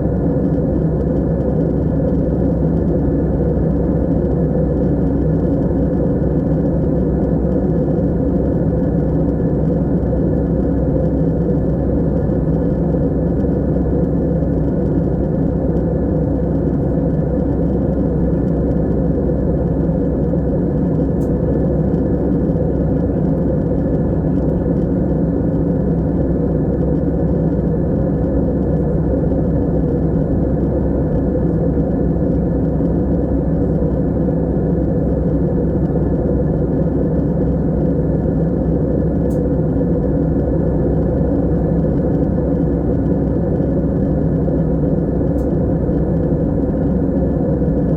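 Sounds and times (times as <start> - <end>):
airplane cabin drone: 0.0 - 47.9.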